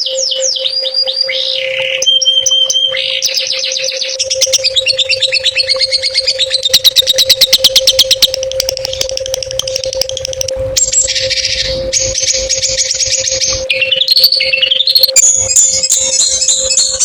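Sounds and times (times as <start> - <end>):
low hum: 0.0 - 17.0
songbird trilling: 0.0 - 17.0.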